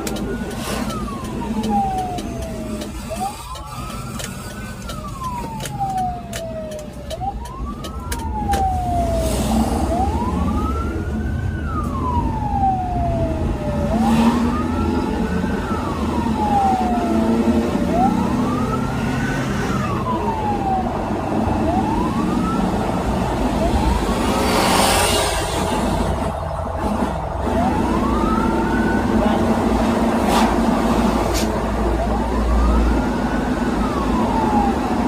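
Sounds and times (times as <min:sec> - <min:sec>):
ambulance siren wailing: 0:00.0 - 0:35.0
engine and road noise: 0:00.0 - 0:35.0.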